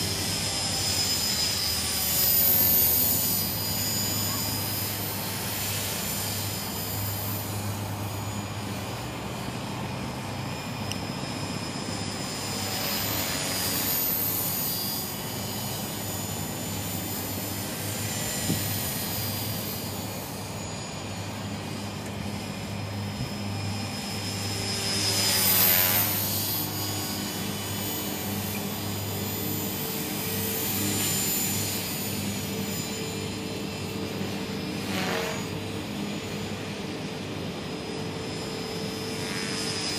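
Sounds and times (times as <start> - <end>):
rc helicopter rotor buzz: 0.0 - 39.9.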